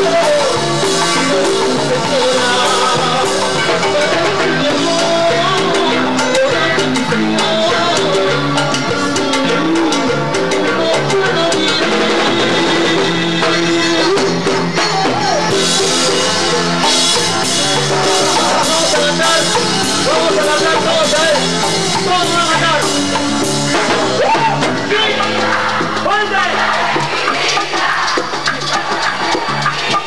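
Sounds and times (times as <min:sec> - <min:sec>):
latin dance band music: 0:00.0 - 0:30.0.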